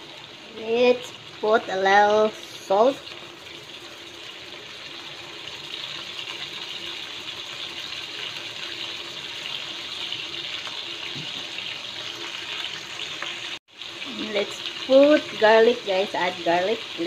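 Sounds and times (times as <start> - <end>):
shrimp sizzling in butter: 0.0 - 17.0.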